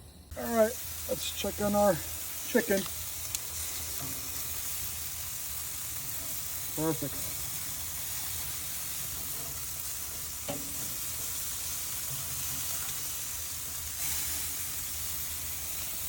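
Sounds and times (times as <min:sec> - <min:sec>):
meat sizzling on a grill: 0:00.3 - 0:16.0.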